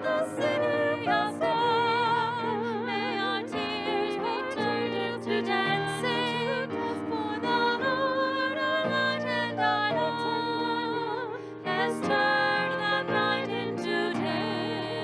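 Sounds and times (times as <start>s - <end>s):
person singing a hymn with vibrato: 0.0s - 15.0s.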